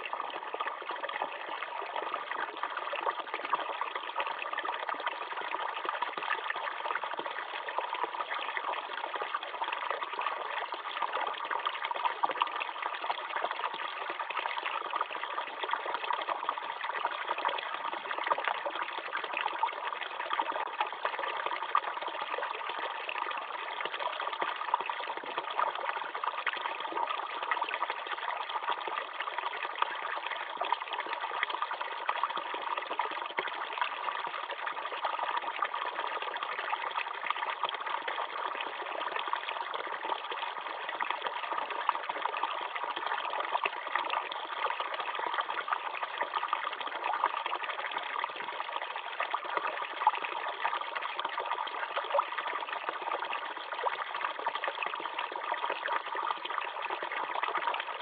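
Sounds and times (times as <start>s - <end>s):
water pouring into a pool: 0.0s - 58.0s.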